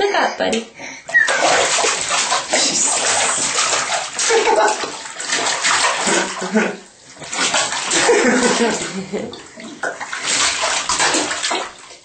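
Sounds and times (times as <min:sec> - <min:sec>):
baby's hands slapping bathwater: 0:01.1 - 0:12.0.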